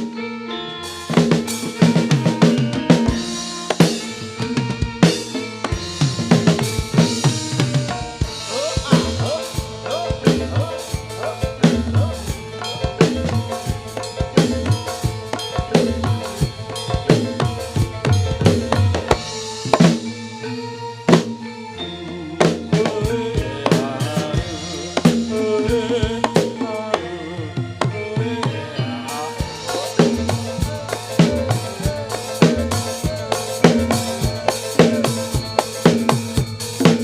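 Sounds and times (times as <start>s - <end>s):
ringing metal percussion: 0.8s - 26.9s, 28.8s - 37.0s
drums beating fast rhythm: 0.8s - 37.0s.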